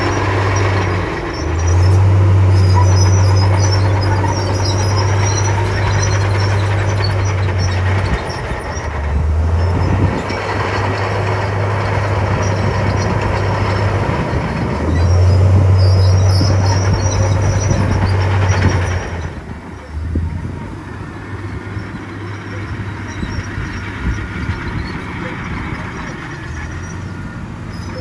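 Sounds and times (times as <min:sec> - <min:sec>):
heavy diesel engine droning: 0:00.0 - 0:28.0.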